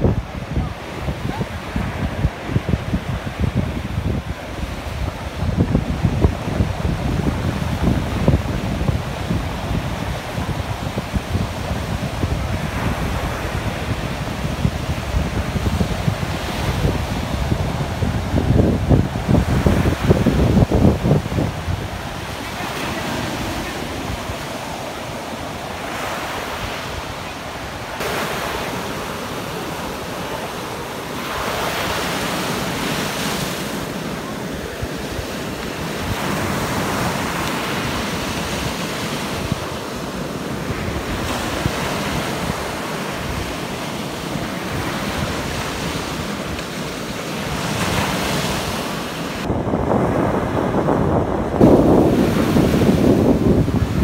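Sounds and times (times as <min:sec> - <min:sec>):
waves breaking on sea wall: 0:00.0 - 0:50.8, 0:51.5 - 0:54.0
wind buffeting microphone: 0:00.0 - 0:54.0.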